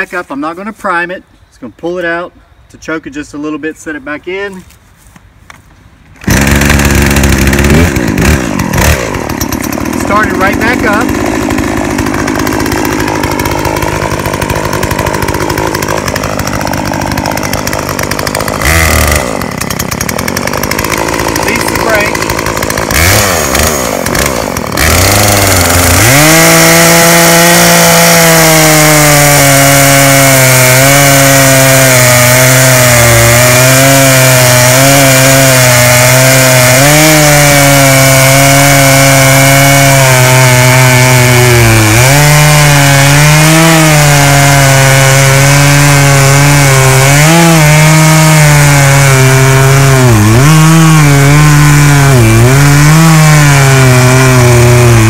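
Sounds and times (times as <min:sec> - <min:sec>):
chainsaw cutting through log: 0:06.2 - 0:55.0.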